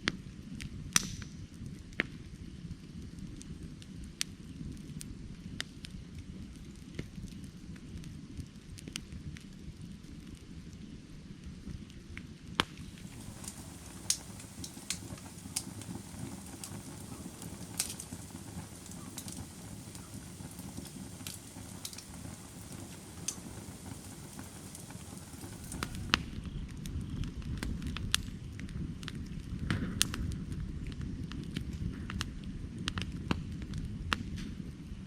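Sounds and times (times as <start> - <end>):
firewood crackling and popping: 0.0 - 35.0
low flame noise: 0.0 - 35.0.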